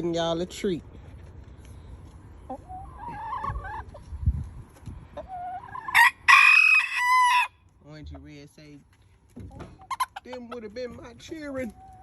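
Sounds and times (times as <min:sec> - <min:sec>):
chickens clucking: 0:01.6 - 0:12.0.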